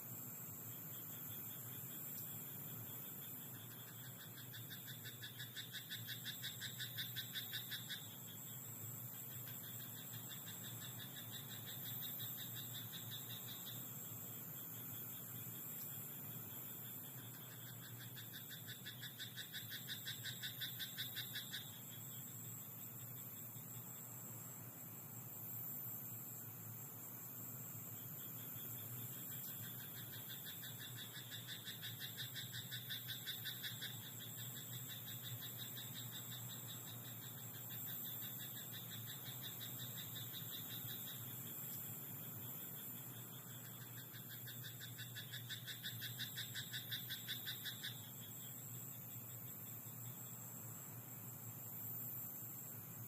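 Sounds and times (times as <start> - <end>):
frogs croaking: 0.0 - 53.0
steady high hiss: 0.0 - 53.0.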